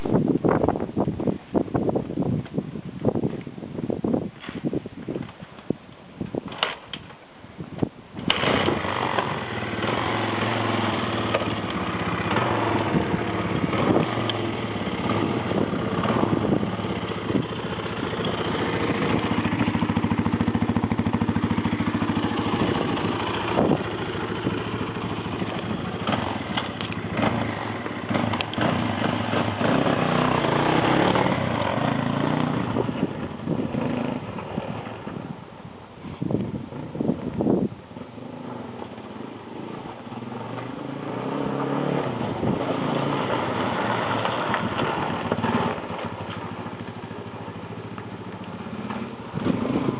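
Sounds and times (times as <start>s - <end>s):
motorcycle engine running: 8.2s - 49.9s.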